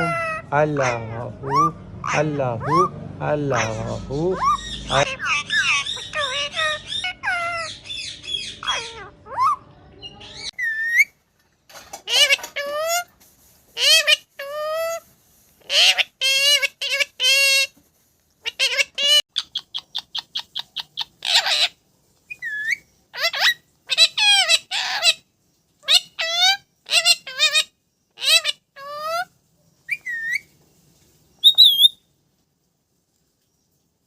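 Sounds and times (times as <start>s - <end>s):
parrot calling and whistling: 0.0s - 11.2s, 12.0s - 13.1s, 13.8s - 17.7s, 18.4s - 29.3s, 29.9s - 30.5s, 31.4s - 32.1s.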